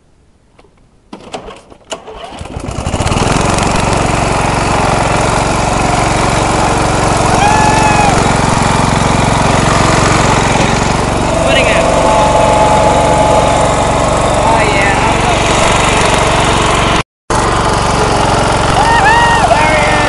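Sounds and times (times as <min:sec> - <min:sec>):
lawn mower engine running: 0:01.2 - 0:20.0.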